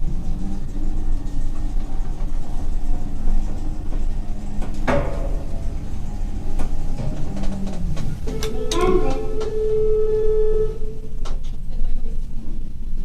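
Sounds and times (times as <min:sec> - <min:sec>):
elevator humming: 0:00.0 - 0:12.9.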